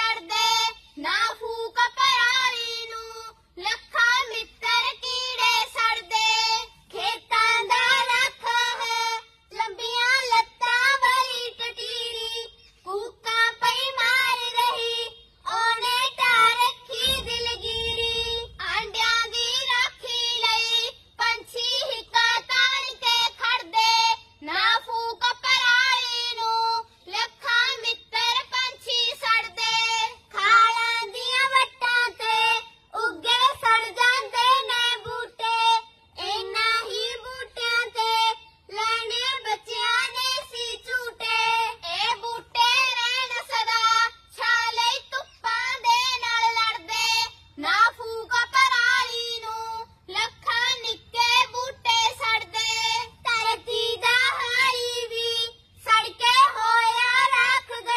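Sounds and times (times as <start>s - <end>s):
girls singing into a microphone: 0.0s - 57.9s.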